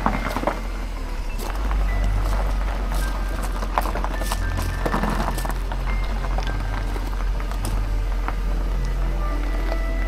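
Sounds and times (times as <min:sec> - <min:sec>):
background music with held notes: 0:00.0 - 0:10.0
steady low hum: 0:00.0 - 0:10.0.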